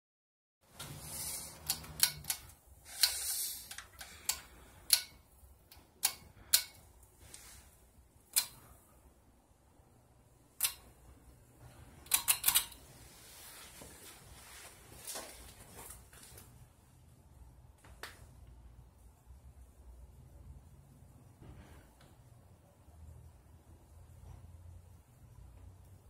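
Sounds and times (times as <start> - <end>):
faint low fan hum: 0.6 - 26.0.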